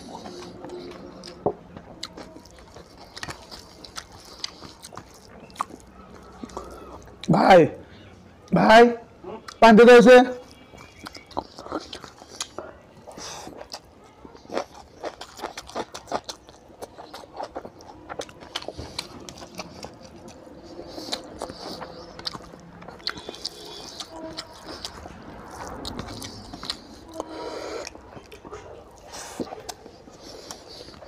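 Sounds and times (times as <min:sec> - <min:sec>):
person chewing with wet mouth sounds: 0:00.0 - 0:07.3, 0:09.4 - 0:09.6, 0:10.4 - 0:31.0.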